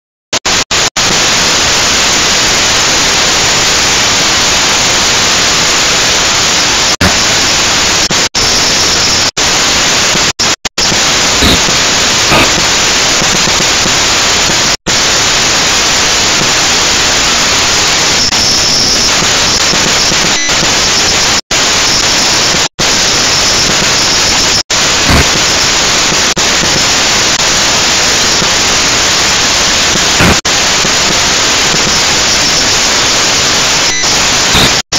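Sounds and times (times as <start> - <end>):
static hiss: 0.4 - 34.8.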